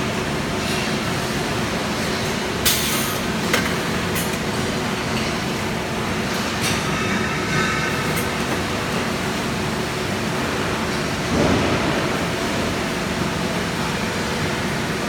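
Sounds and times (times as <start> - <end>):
machine mechanical and air noise: 0.0 - 15.0.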